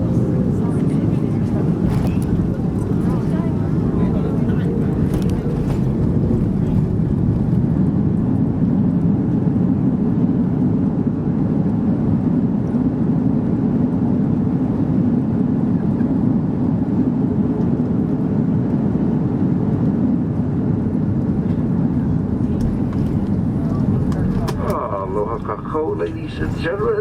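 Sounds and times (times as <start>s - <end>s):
aircraft cabin engine rumble: 0.0s - 27.0s.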